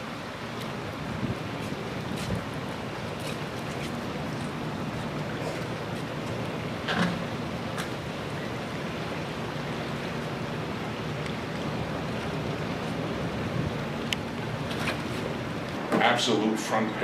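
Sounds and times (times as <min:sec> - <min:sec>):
rushing background noise: 0:00.0 - 0:17.0.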